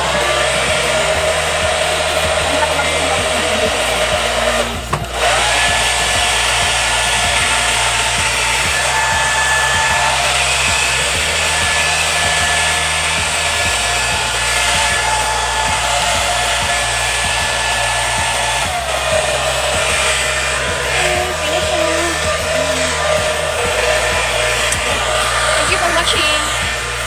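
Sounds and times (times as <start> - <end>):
electric blower motor whirring: 0.0 - 27.0.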